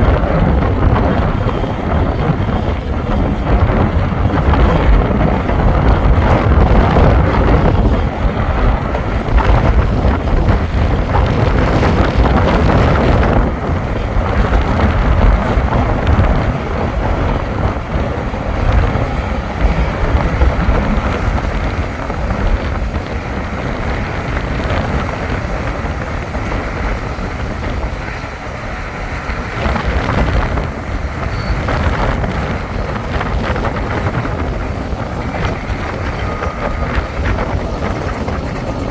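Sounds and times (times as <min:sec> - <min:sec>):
bulldozer diesel engine rumbling: 0:00.0 - 0:38.9
wind buffeting microphone: 0:00.0 - 0:38.9.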